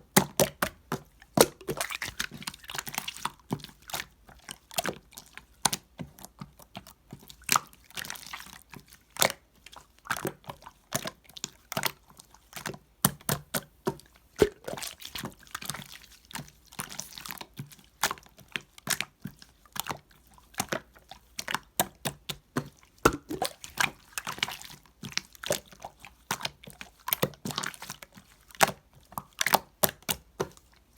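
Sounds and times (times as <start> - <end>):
wet slime squishing: 0.0 - 30.9.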